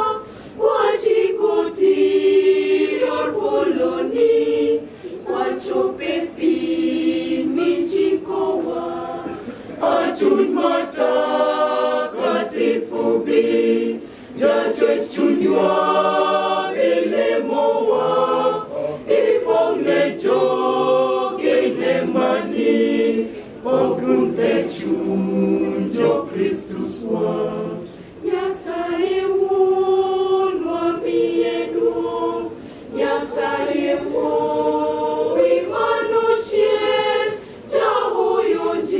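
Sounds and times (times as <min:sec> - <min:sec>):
mixed choir singing a cappella: 0:00.0 - 0:38.9.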